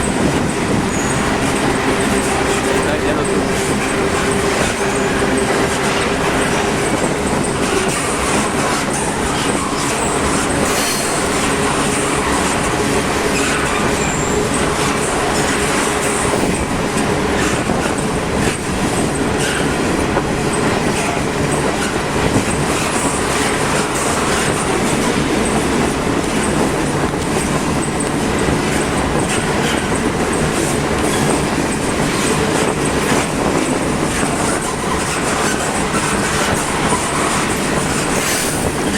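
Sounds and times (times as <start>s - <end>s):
freight train wheels clattering: 0.0s - 38.9s.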